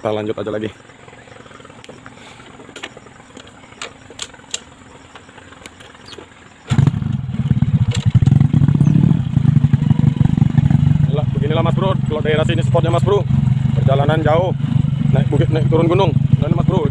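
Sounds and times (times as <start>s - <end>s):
motorcycle engine starting and running: 0.0s - 16.9s.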